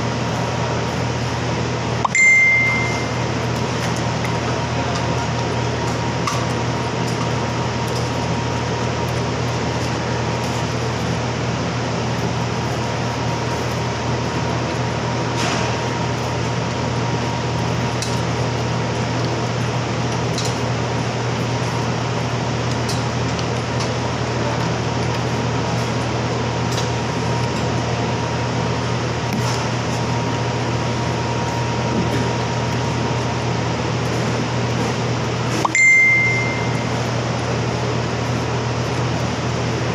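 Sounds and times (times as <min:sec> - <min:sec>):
cooling fan humming: 0:00.0 - 0:39.9.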